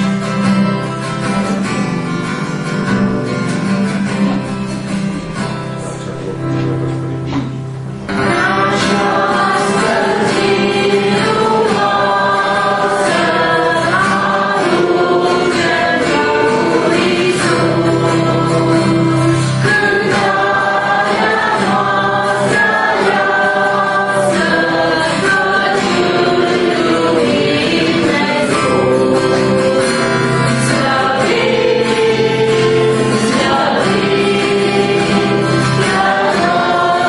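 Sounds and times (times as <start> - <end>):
acoustic guitar strumming: 0.0 - 37.0
group singing a hymn: 6.6 - 37.0.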